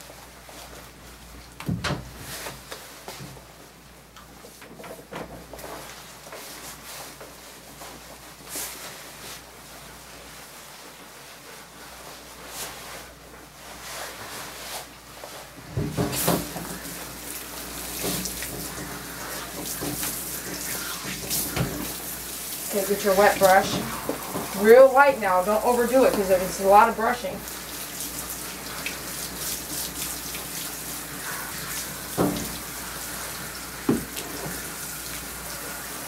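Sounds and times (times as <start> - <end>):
scrubbing soapy dog fur: 5.5 - 36.0.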